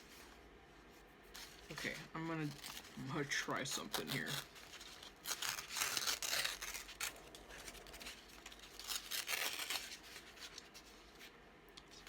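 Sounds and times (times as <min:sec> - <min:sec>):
paper rustling and scraping: 0:00.0 - 0:12.0.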